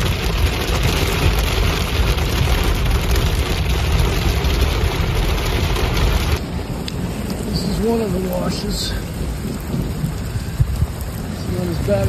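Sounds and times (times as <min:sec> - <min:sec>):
hail and rain on car roof: 0:00.0 - 0:12.0.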